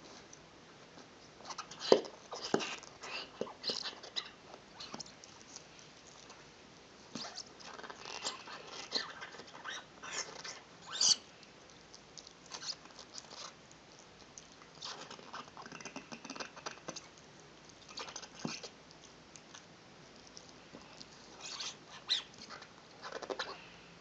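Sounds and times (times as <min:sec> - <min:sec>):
dog chewing a ball: 0:01.0 - 0:06.5, 0:07.1 - 0:23.6.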